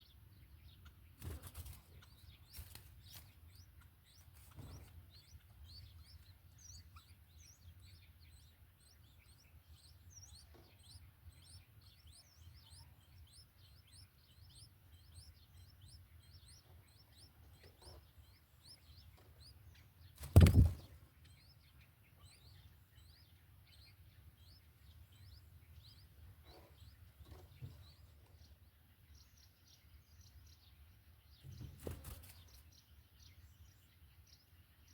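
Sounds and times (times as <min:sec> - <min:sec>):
faint rapid bird chirps: 0:00.0 - 0:34.9.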